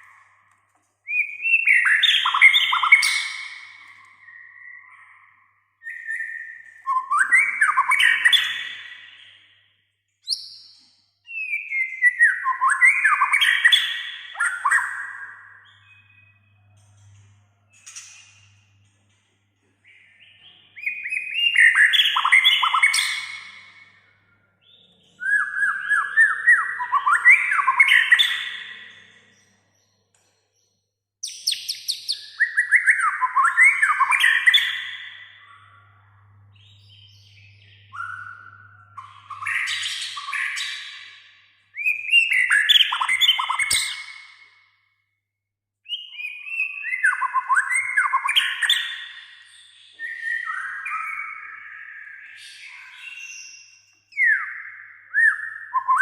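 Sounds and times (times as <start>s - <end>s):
songbird singing trills: 1.1s - 18.9s, 19.8s - 30.0s, 31.2s - 44.6s, 45.9s - 56.0s.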